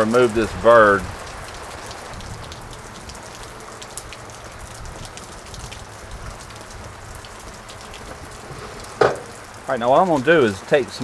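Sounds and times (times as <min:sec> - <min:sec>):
heavy rain downpour: 0:00.0 - 0:11.0
drops ticking: 0:01.2 - 0:11.0.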